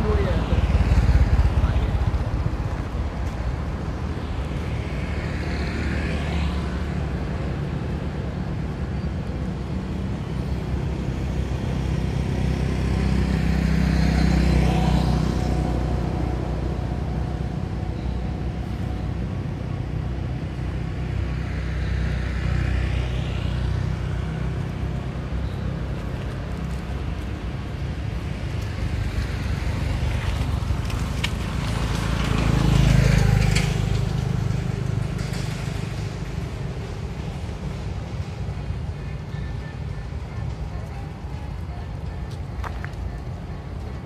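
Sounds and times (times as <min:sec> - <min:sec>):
road traffic rumble: 0:00.0 - 0:44.0
vehicles passing: 0:00.0 - 0:44.0.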